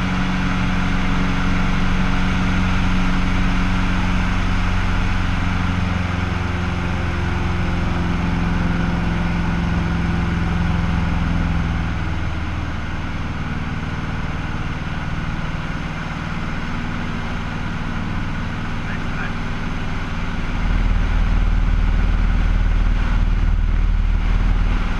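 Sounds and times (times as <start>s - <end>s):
airplane engine and propeller: 0.0s - 24.9s.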